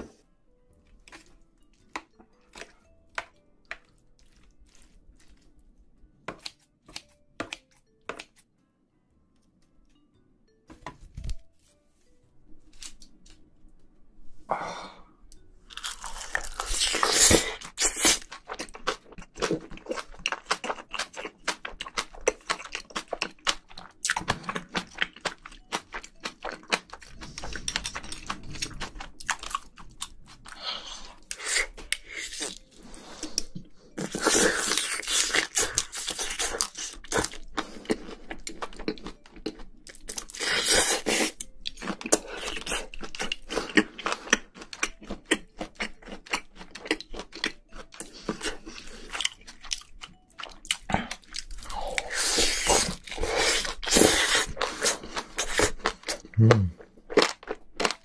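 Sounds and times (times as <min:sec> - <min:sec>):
chewing and crunching food: 0:00.7 - 0:08.4, 0:15.6 - 0:58.0.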